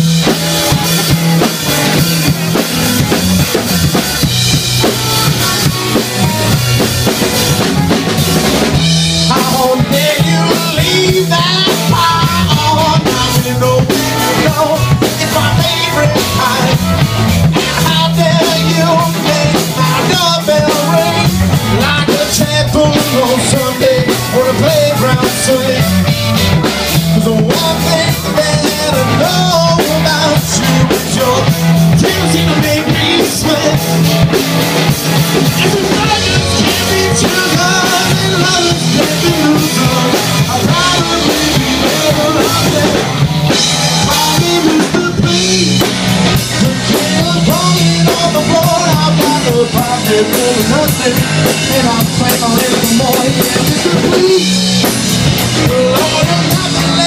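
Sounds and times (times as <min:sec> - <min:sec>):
drum kit: 0:00.0 - 0:57.0
electric bass: 0:00.0 - 0:57.0
electric guitars: 0:00.0 - 0:57.0.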